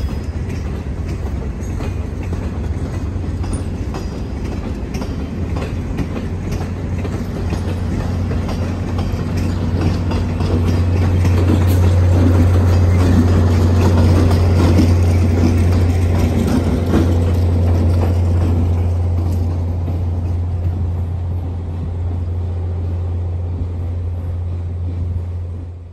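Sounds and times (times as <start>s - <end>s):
diesel locomotive engine: 0.0s - 25.9s
train rattling: 0.0s - 25.9s.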